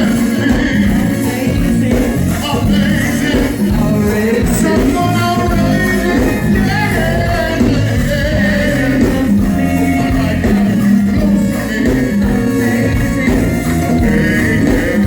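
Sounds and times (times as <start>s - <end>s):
bass line: 0.0s - 15.0s
live band playing: 0.0s - 15.0s
percussion: 0.0s - 15.0s
person singing: 0.0s - 15.0s.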